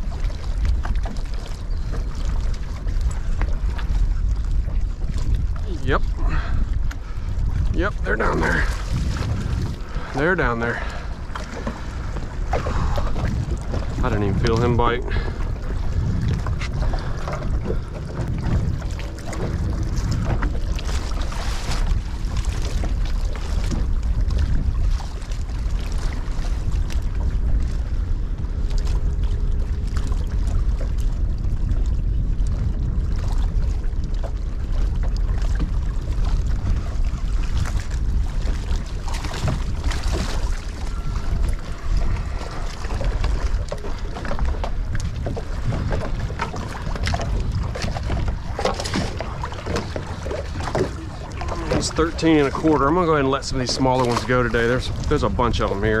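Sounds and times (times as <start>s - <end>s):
water lapping against hull: 0.0s - 56.0s
wind buffeting microphone: 0.0s - 56.0s.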